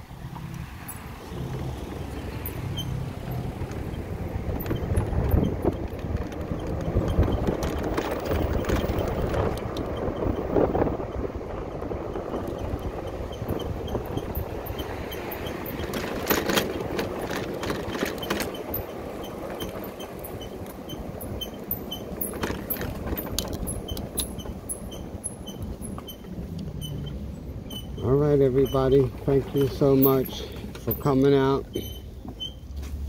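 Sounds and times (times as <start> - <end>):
motorcycle tyre noise: 0.0 - 33.0
wind rushing over microphone: 0.1 - 28.6.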